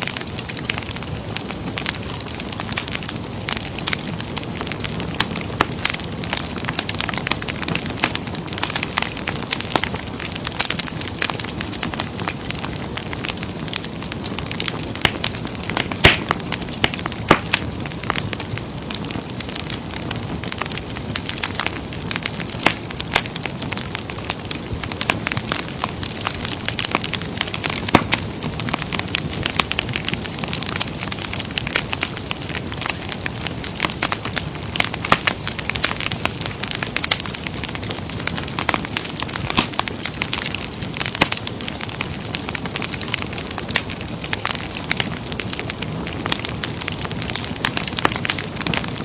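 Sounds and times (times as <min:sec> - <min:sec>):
fire pops and snaps: 0:00.0 - 0:49.0
wood fire crackling: 0:00.0 - 0:49.0.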